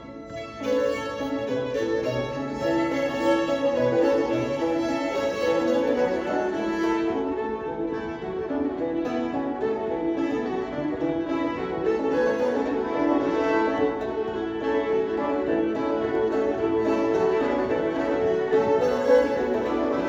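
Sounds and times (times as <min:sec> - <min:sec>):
banjo playing: 0:00.0 - 0:20.0
fiddles playing: 0:00.0 - 0:20.0.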